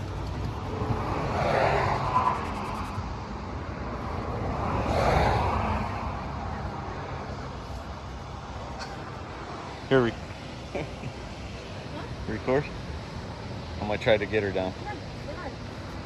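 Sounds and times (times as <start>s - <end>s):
steady low traffic rumble: 0.0s - 16.0s
vehicles passing: 0.0s - 16.0s.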